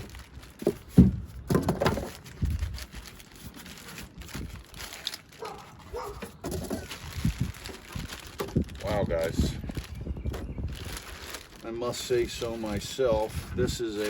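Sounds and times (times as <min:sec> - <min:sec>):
cardboard packaging rustling: 0:00.0 - 0:14.0.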